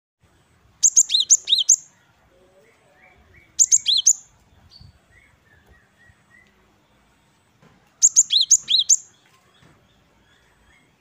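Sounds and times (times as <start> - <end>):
bird singing: 0.2 - 11.0.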